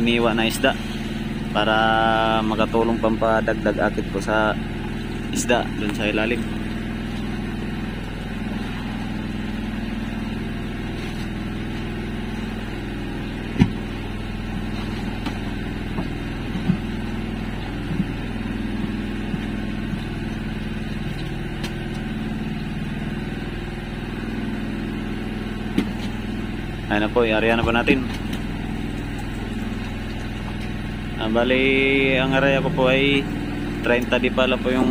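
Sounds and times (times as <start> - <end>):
engine humming: 0.0 - 34.9.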